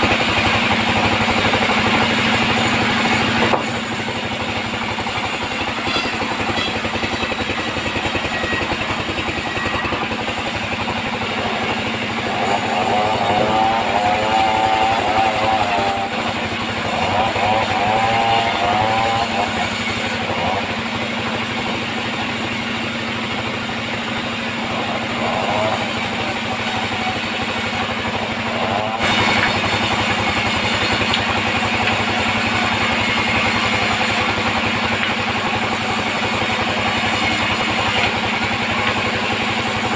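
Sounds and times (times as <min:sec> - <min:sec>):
sawmill engine droning: 0:00.0 - 0:39.9
wavering saw whine: 0:00.0 - 0:39.9.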